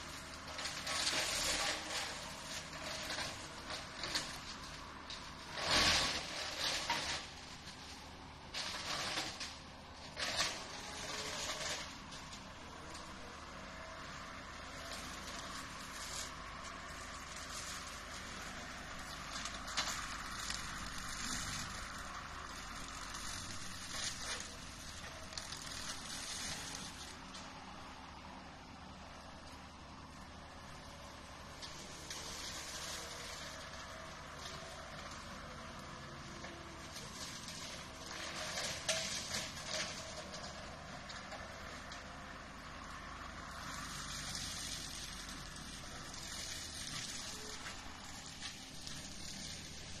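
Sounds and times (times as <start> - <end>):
brush cutter shredding brush: 0.0 - 27.6, 31.0 - 42.3, 43.4 - 50.0
excavator engine running: 0.0 - 50.0.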